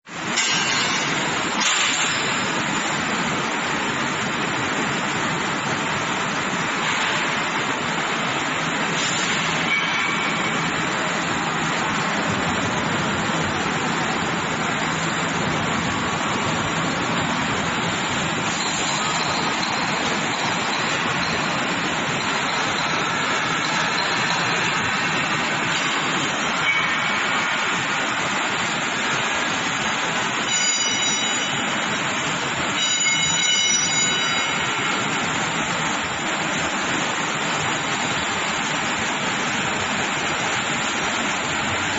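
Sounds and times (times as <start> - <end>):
steady machinery noise: 0.1 - 41.9.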